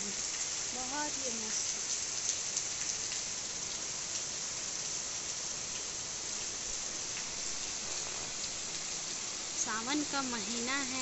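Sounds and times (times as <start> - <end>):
rain drop ticks: 0.0 - 5.0, 5.7 - 11.0
heavy rain on trees: 0.0 - 11.0.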